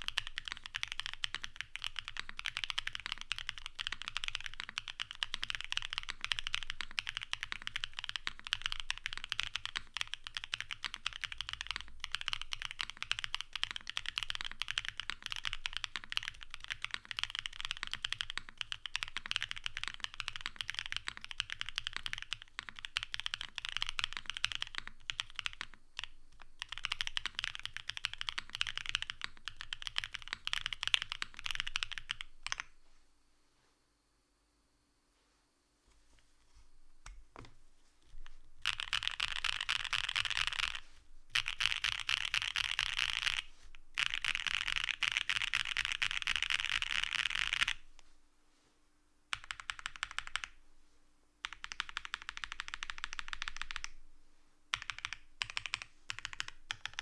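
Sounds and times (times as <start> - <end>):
typing on mechanical keyboard: 0.0 - 32.7, 38.6 - 47.8, 49.3 - 50.6, 51.4 - 54.0, 54.7 - 57.0.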